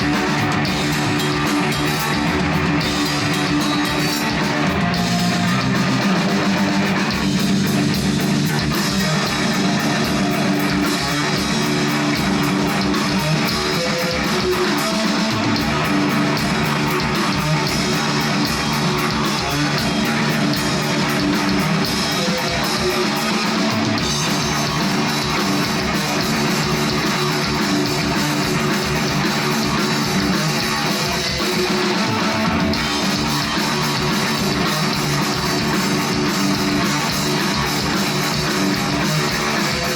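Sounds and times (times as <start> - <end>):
bass guitar: 0.0 - 39.9
distorted electric guitar: 0.0 - 39.9
drums with fast cymbal beat: 0.0 - 39.9.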